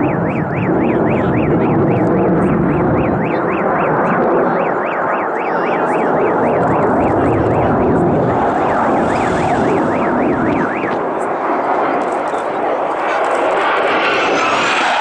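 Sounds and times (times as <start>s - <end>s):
electronic warbling siren: 0.0s - 15.0s
jet engine noise overhead: 0.0s - 15.0s.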